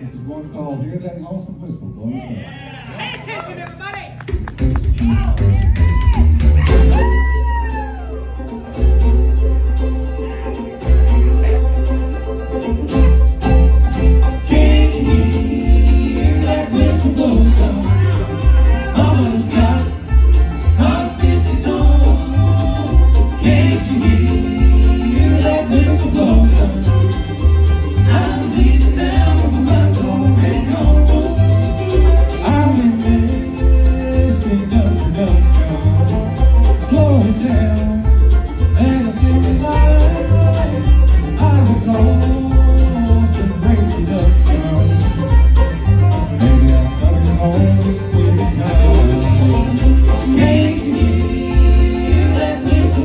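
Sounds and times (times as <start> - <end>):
bluegrass band playing: 0.0 - 1.9, 2.5 - 53.0
upright bass deep low notes: 4.2 - 53.0.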